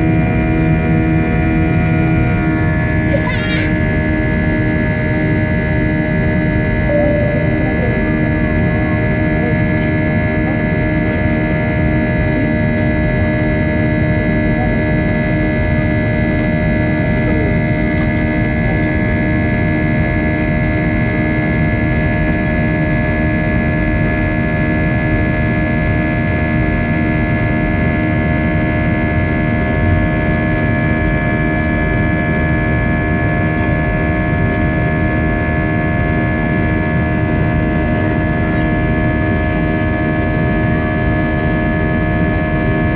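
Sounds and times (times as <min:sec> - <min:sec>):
aircraft cabin engine drone: 0:00.0 - 0:42.9.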